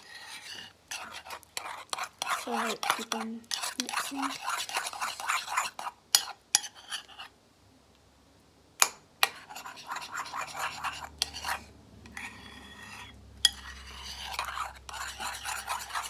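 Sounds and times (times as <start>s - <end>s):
spoon scraping slime: 0.0s - 7.3s, 9.2s - 16.0s.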